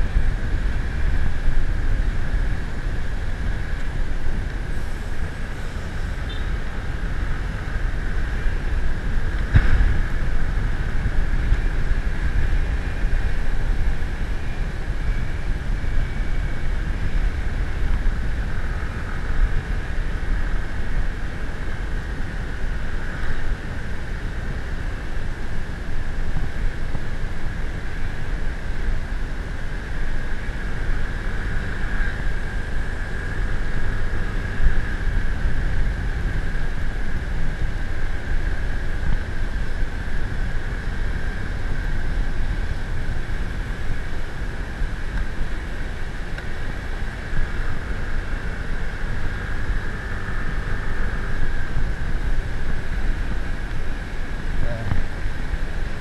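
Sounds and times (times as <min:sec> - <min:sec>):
steady whine: 0:00.0 - 0:56.0
vehicle running: 0:00.0 - 0:56.0
wind rumbling on microphone: 0:00.0 - 0:56.0.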